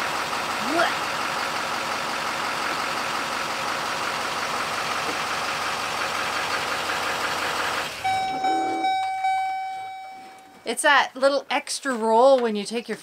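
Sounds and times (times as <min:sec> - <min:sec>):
pickup truck engine idling: 0:00.0 - 0:10.5.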